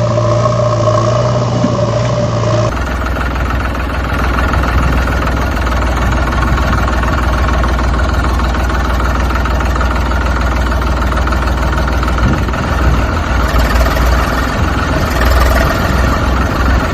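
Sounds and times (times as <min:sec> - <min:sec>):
heavy engine rumbling: 0:00.0 - 0:16.9.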